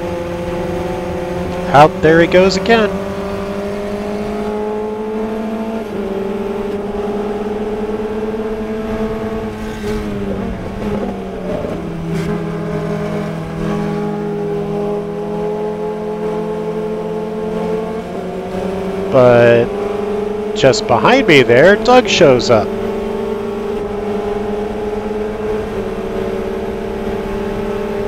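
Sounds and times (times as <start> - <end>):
race car engine running hard: 0.0 - 28.0.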